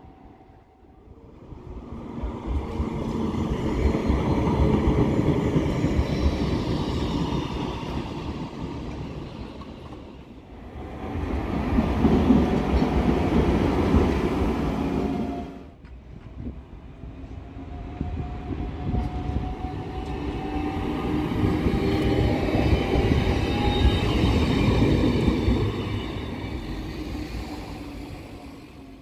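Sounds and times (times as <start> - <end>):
older tram passing close by: 0.0 - 15.8, 16.5 - 29.0
tram passing: 0.0 - 29.0.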